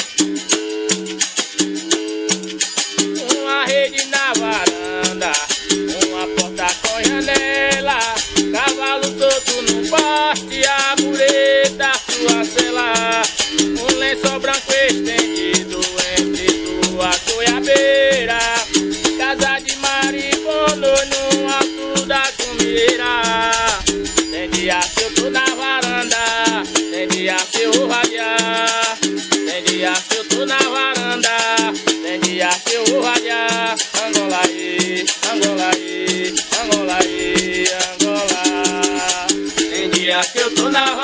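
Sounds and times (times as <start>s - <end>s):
upbeat music with shaker rhythm: 0.0s - 41.0s.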